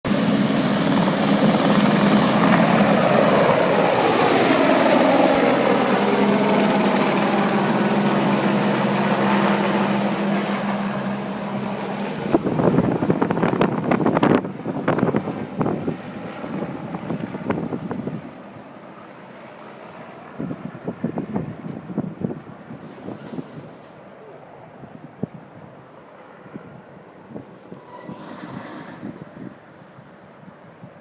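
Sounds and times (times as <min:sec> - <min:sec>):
wind buffeting microphone: 0:00.1 - 0:18.4, 0:20.4 - 0:23.9, 0:26.5 - 0:31.0
helicopter turbine and rotor drone: 0:00.1 - 0:31.0.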